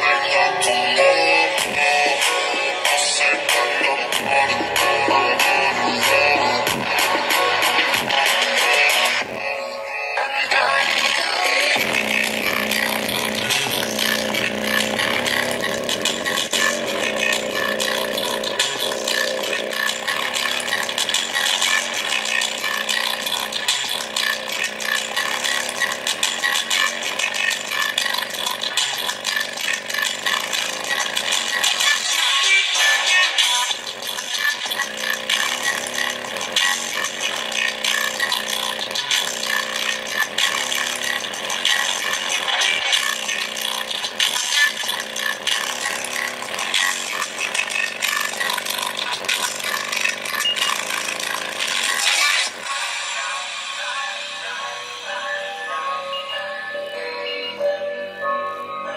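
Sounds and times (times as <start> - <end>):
speaker driver buzzing and rattling: 0.0 - 55.2
distorted bass-boosted music from speaker: 0.0 - 58.9.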